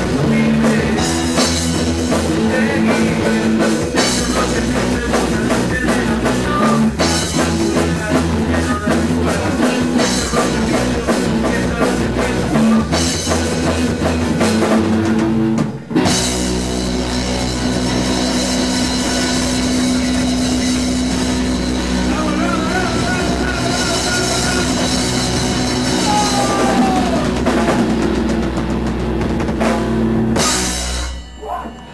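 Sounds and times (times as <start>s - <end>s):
rock band playing live: 0.0s - 31.9s.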